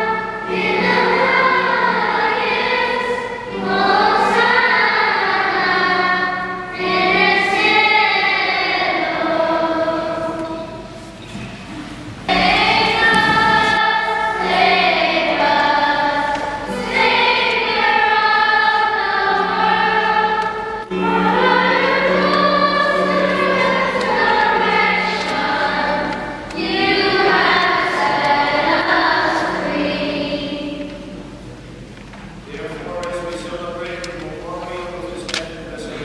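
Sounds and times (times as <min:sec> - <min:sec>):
choir singing a hymn: 0:00.0 - 0:31.4.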